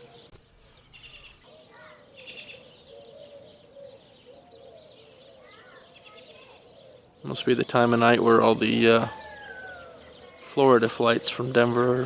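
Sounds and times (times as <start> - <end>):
high bird chirps: 0.0 - 10.8
short low bird calls: 0.0 - 12.0.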